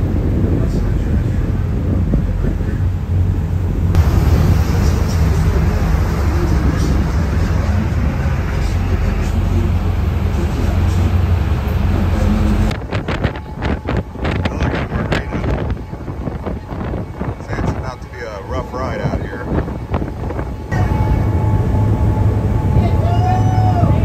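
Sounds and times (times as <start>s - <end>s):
ferry engines rumbling: 0.0s - 24.0s
wind: 0.0s - 24.0s
wind buffeting microphone: 0.0s - 24.0s.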